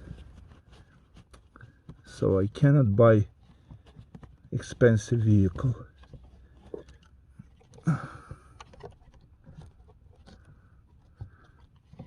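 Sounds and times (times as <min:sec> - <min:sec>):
plastic filter clicks and scrapes: 0:00.0 - 0:12.0.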